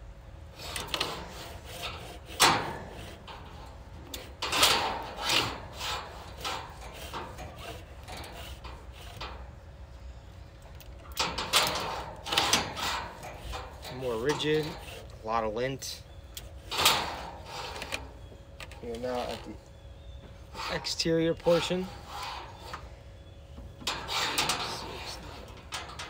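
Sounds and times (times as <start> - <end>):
cable scraping inside metal duct: 0.5 - 9.7, 11.1 - 19.6, 20.4 - 26.0.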